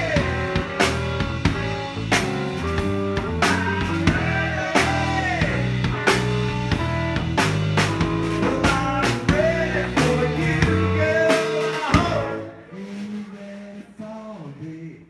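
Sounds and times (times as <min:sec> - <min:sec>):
drum kit hitting: 0:00.0 - 0:12.4
live band playing: 0:00.0 - 0:13.7.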